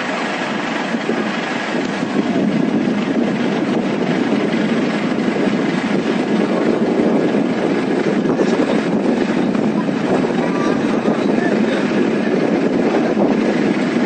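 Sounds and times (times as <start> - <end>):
floodwater roaring: 0.0 - 14.0.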